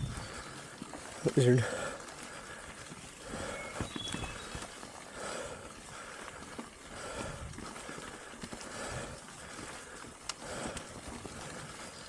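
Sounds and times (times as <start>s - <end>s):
bike tyres rattling on dirt trail: 0.0s - 12.0s
person breathing heavily: 1.6s - 4.4s, 5.0s - 11.9s.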